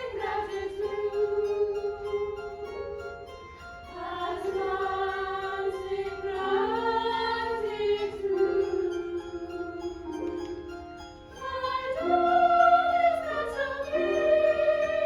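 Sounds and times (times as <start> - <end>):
high voices singing with vibrato: 0.0 - 2.7, 3.9 - 10.4, 11.4 - 15.0
instrumental accompaniment: 0.0 - 15.0.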